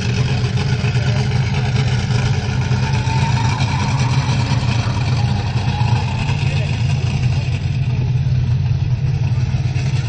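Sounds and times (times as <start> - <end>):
monster truck engine rumbling: 0.0 - 10.0.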